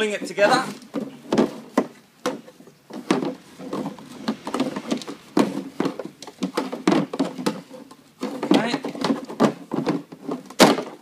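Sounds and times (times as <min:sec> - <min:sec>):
rope rubbing through plastic: 0:00.4 - 0:11.0
plastic parts clicking and knocking: 0:00.5 - 0:11.0.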